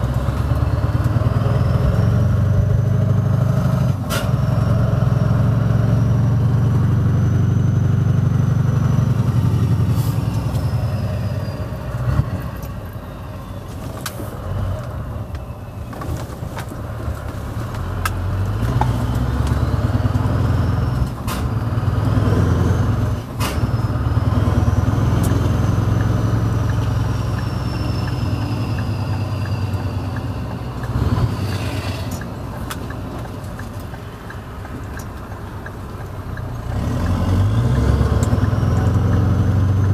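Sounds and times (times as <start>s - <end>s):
truck engine drone: 0.0s - 39.9s.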